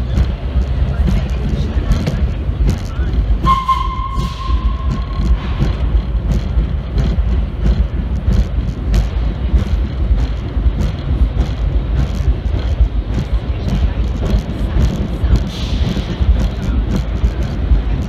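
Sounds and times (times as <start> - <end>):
sharp clicks and rattles: 0.0 - 3.5, 4.2 - 18.0
subway car rumbling: 0.0 - 18.0.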